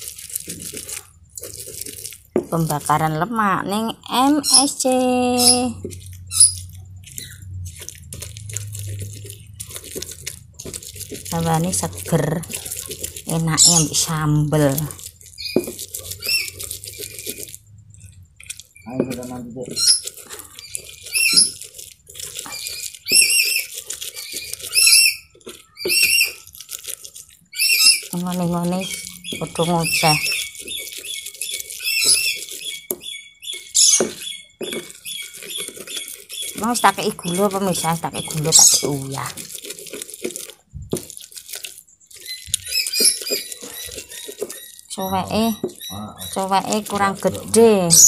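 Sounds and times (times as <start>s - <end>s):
high squeaky chirps: 0.0s - 48.0s
stone pestle grinding in mortar: 0.0s - 48.0s.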